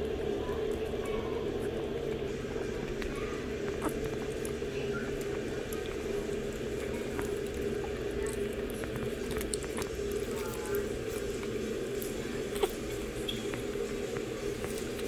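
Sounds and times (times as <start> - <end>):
puppies eating wet food: 0.0 - 15.0
steady low hum: 0.0 - 15.0.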